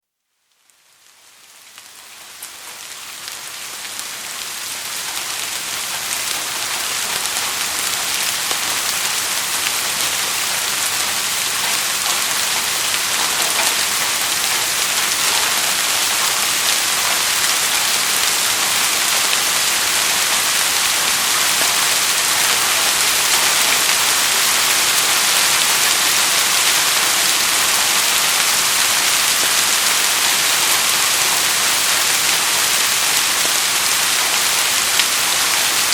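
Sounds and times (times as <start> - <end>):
steady rain: 0.1 - 35.9.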